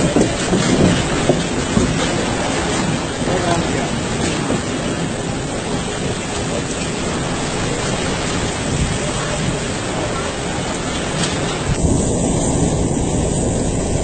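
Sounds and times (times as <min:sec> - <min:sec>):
heavy wind-driven rain: 0:00.0 - 0:14.0.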